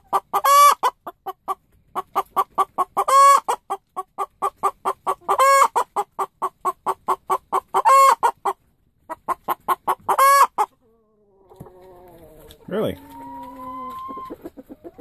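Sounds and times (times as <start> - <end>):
hen clucking: 0.0 - 15.0.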